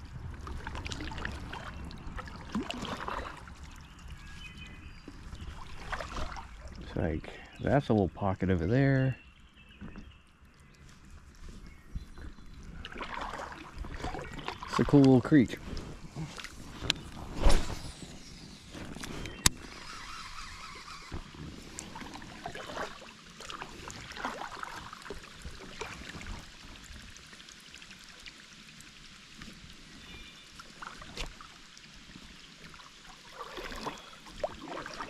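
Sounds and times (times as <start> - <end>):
water splashing and lapping: 0.0 - 8.0, 9.8 - 35.0.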